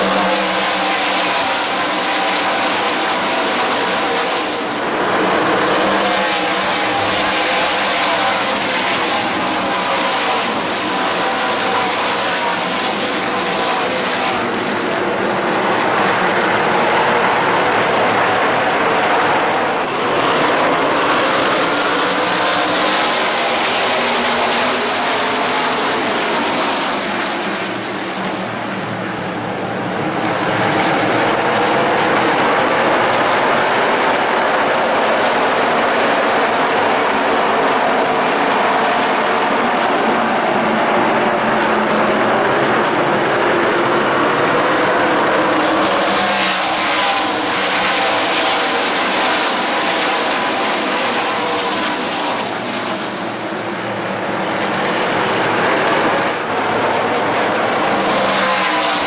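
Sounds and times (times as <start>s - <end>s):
many racing engines droning: 0.0s - 59.0s.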